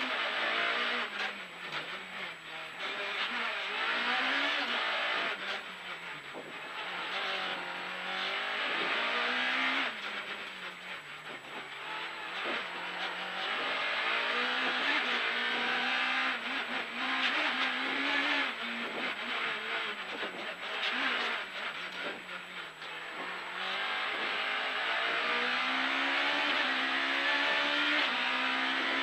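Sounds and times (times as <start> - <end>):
rally car engine pulling hard: 0.0 - 29.0
road and cabin noise: 0.0 - 29.0.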